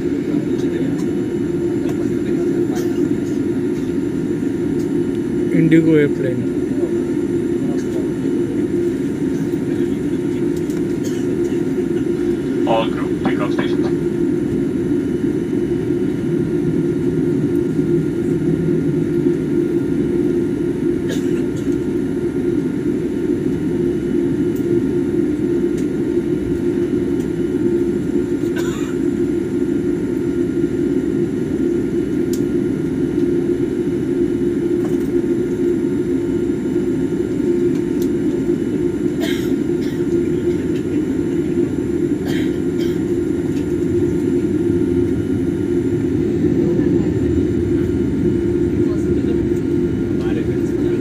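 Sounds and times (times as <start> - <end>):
jet engine rumble in cabin: 0.0 - 51.0.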